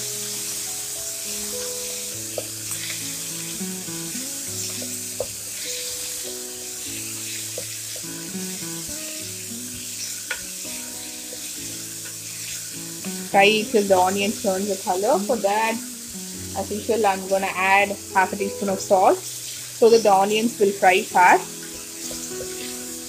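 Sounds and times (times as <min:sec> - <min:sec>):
background music melody: 0:00.0 - 0:23.0
onions sizzling in oil: 0:00.0 - 0:23.0.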